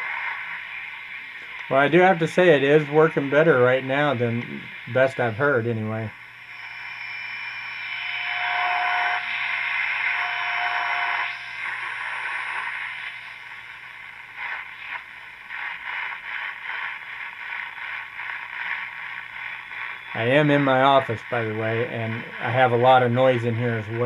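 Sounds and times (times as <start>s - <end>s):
radio static: 0.0s - 24.0s
radio whistle tone: 0.0s - 24.0s.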